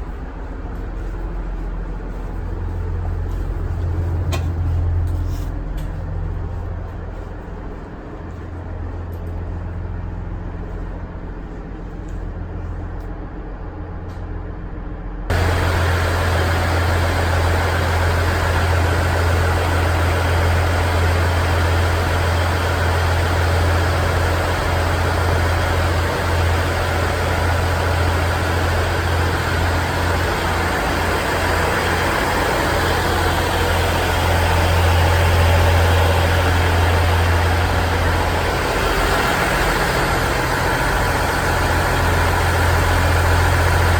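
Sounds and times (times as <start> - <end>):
diesel railcar engine droning: 0.0 - 43.9.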